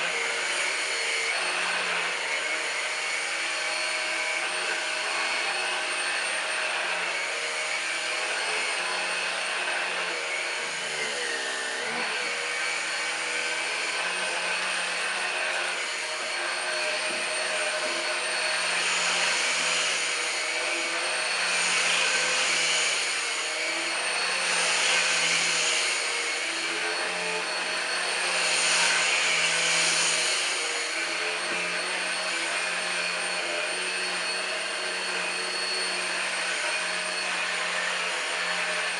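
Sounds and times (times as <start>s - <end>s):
stick vacuum motor whine: 0.0s - 38.9s.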